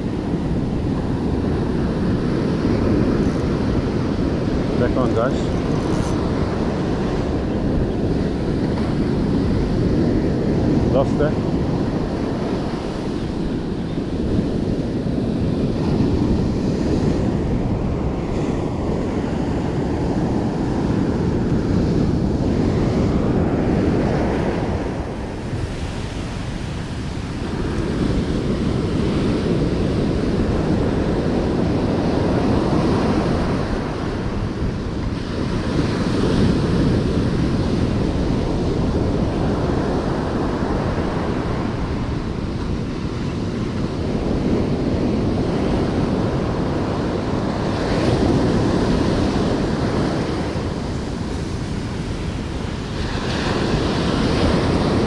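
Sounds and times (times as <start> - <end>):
ocean surf breaking on beach: 0.0 - 55.0
wind buffeting microphone: 0.0 - 55.0.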